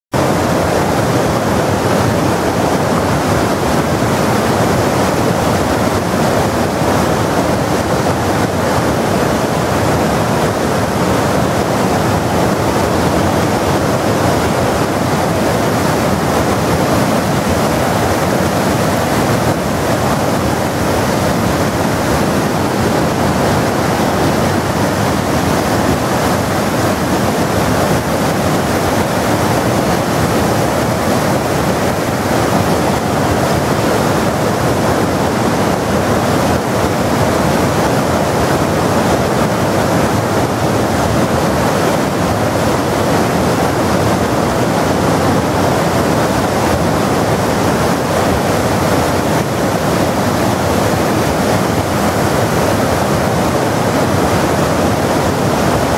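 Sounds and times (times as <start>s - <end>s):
waterfall rushing and splashing: 0.1s - 55.9s.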